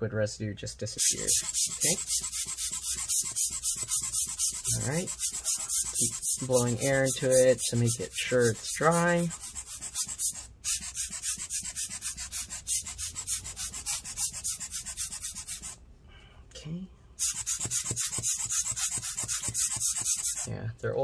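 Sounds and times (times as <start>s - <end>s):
toothbrush scrubbing circuit board: 1.0s - 15.8s, 17.2s - 20.5s.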